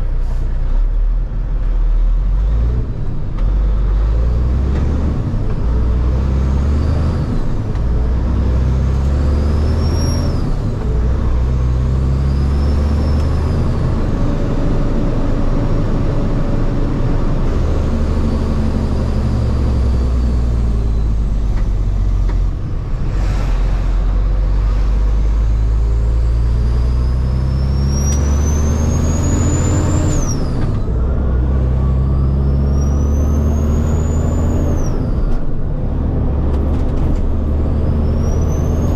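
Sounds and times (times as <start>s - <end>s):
truck diesel engine shifting gears: 0.0s - 38.9s.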